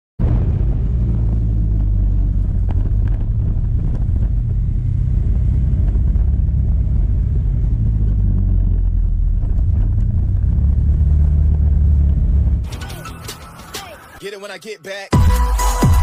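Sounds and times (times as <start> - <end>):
motorcycle engine rumble: 0.2 - 13.7
road noise: 0.2 - 14.8.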